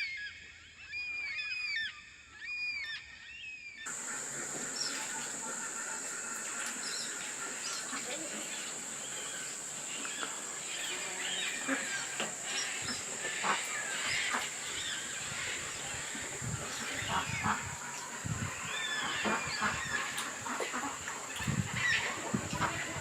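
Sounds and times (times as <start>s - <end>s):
birds chirping and whistling: 0.0s - 20.5s
high-pitched insect drone: 3.9s - 23.0s.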